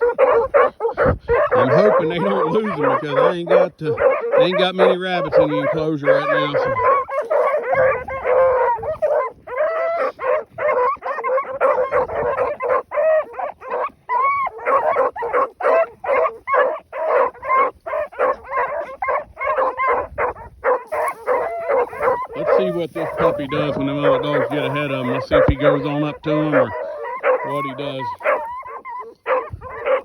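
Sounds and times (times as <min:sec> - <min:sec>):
hound bawling: 0:00.0 - 0:30.0
hounds barking: 0:00.0 - 0:30.0.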